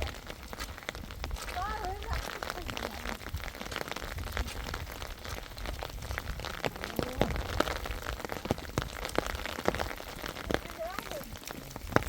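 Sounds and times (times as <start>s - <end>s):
rain hiss: 0.0s - 12.0s
raindrops ticking on surface: 0.0s - 12.0s.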